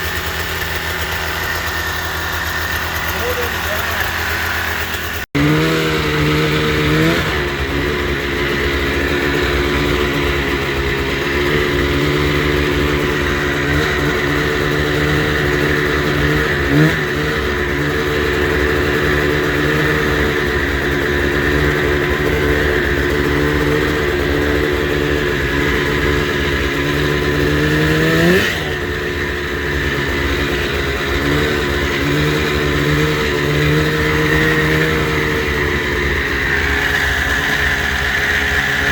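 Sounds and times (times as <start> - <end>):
snowmobile engine idling and revving: 0.0 - 38.9.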